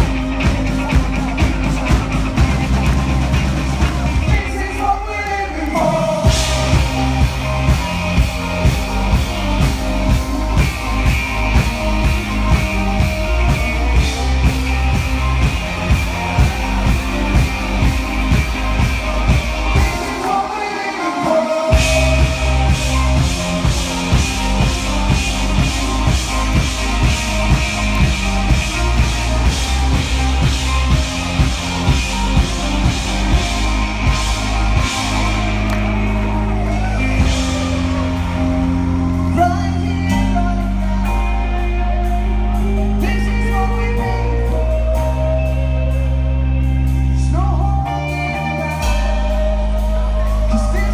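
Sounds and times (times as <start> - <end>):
live rock band playing: 0.0 - 50.9
lead vocal singing: 4.0 - 46.4, 47.1 - 50.9.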